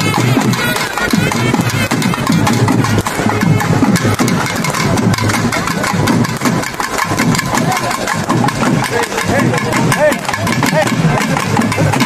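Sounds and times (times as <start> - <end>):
crowd noise: 0.0 - 12.0
frame drums beating rapidly: 0.0 - 12.0.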